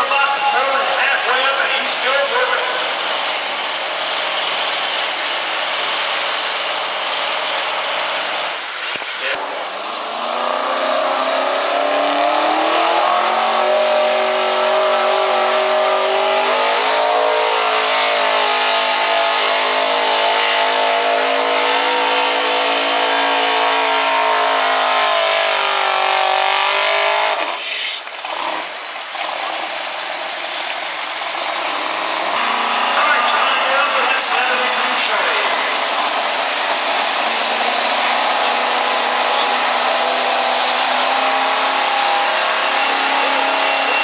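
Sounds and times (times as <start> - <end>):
pickup engine revving under load: 0.0 - 44.0.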